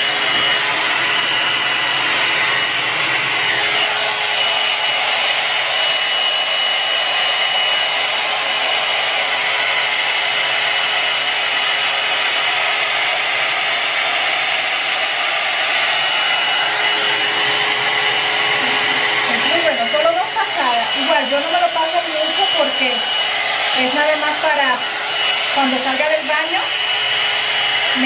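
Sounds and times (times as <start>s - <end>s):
hair dryer blowing with motor whine: 0.0s - 28.0s.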